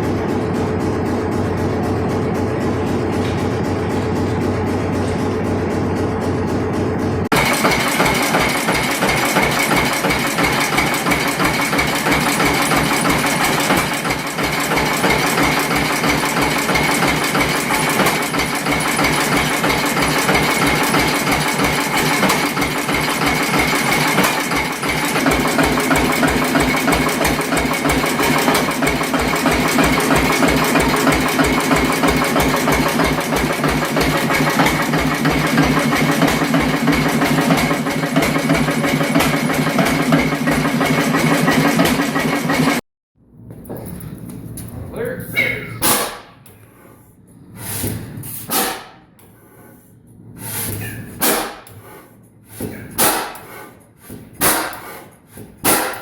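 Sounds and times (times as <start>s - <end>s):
stationary engine running: 0.0s - 42.8s, 45.8s - 56.0s.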